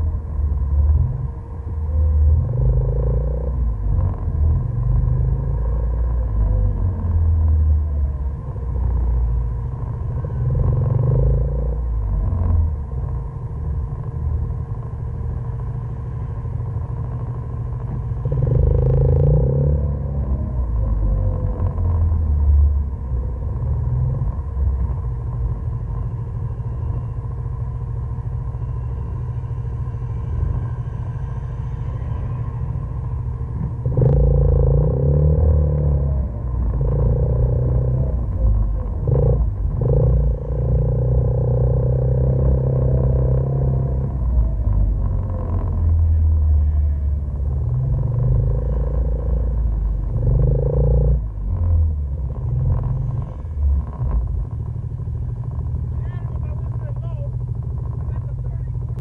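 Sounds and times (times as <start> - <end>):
faint steady whine: 0.0 - 59.0
utility vehicle engine rumble: 0.0 - 59.0.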